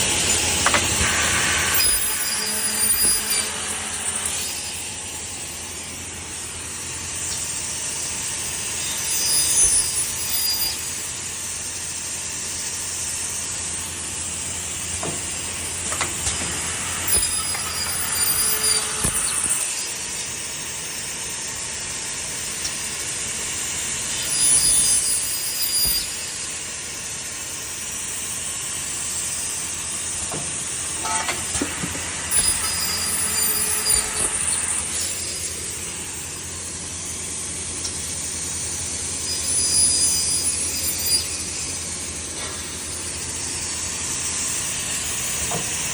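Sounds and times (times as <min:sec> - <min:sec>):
cnc machine hissing: 0:00.0 - 0:45.9
high-pitched cutting whines: 0:00.0 - 0:45.9.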